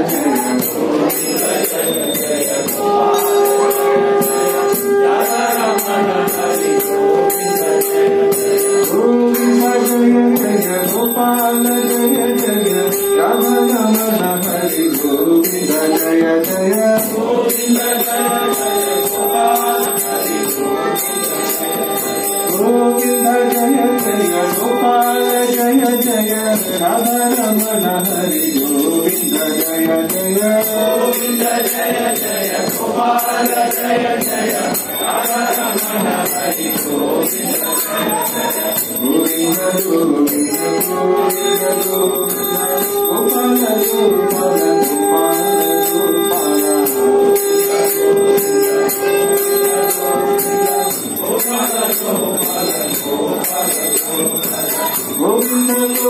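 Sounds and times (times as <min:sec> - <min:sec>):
hand cymbals jingling: 0:00.0 - 0:56.0
voices singing: 0:00.0 - 0:56.0.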